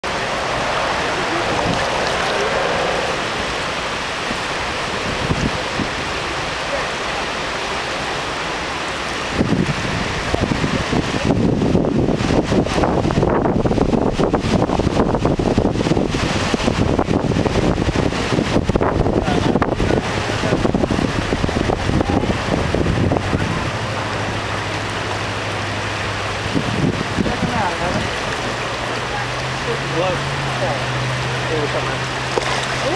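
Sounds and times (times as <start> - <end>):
wind buffeting microphone: 0.0 - 6.4, 9.2 - 32.9
stream flowing over gravel: 0.0 - 32.9.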